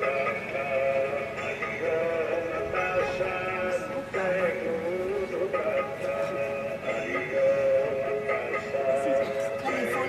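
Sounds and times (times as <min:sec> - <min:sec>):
devotional singing: 0:00.0 - 0:10.0.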